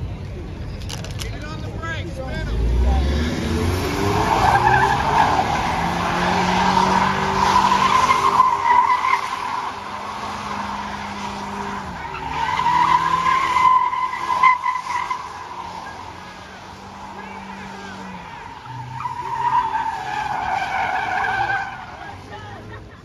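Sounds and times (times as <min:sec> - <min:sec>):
car engine at high revs: 0:02.3 - 0:23.0
tyres squealing: 0:03.8 - 0:22.8.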